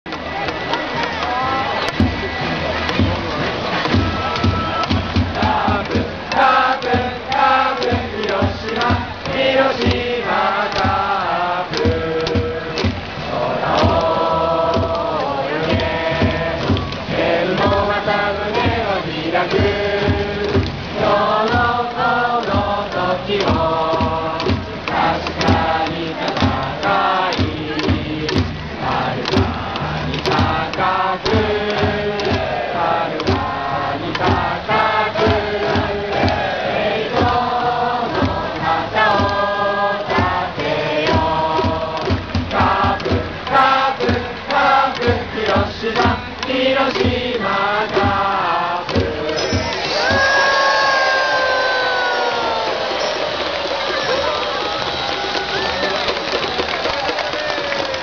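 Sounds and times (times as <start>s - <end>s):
stadium crowd singing and chanting: 0.0s - 58.0s
steady drum beat: 0.1s - 58.0s.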